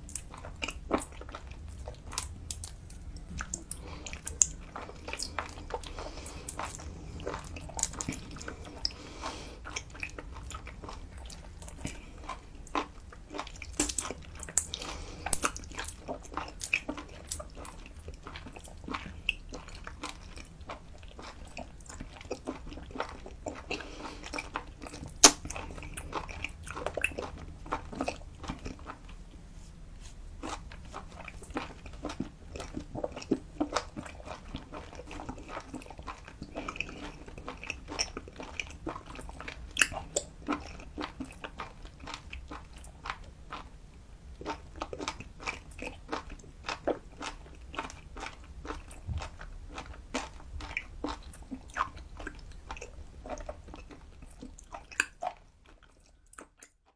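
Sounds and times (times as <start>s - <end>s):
wet mouth chewing clicks: 0.1s - 29.0s, 30.4s - 43.7s, 44.4s - 56.8s.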